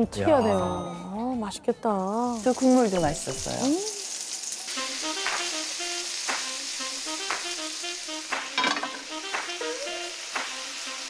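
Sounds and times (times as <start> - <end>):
light background music: 0.0 - 4.0, 4.7 - 11.0
food sizzling in a frying pan: 2.0 - 11.0.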